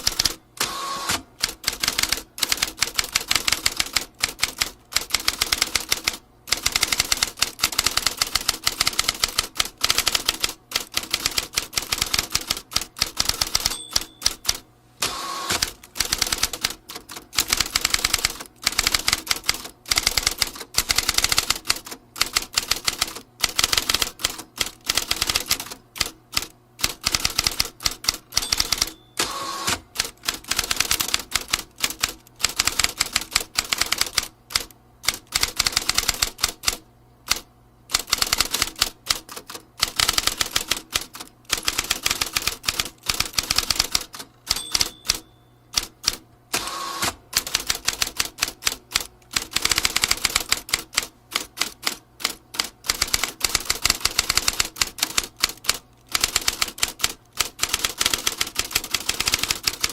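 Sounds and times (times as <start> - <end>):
typewriter keys clacking: 0.0 - 0.4, 1.4 - 14.6, 15.5 - 29.3, 30.0 - 46.2, 47.4 - 59.9.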